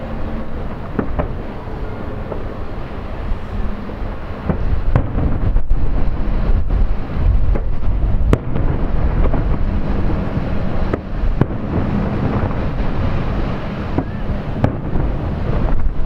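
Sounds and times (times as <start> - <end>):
rumble of bursting fireworks: 0.0 - 16.0
wind buffeting microphone: 0.0 - 16.0.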